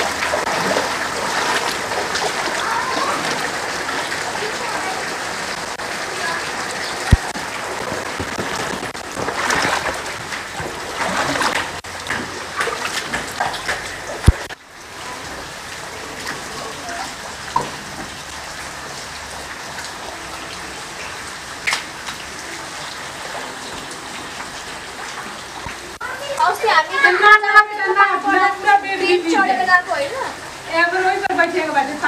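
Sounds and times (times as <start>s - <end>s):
rain pattering on water: 0.0s - 32.0s.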